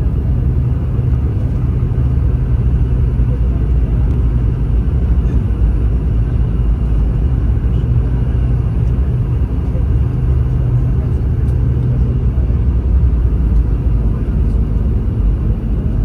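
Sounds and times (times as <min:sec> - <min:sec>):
airliner cabin rumble: 0:00.0 - 0:16.0
low even hum: 0:00.0 - 0:16.0.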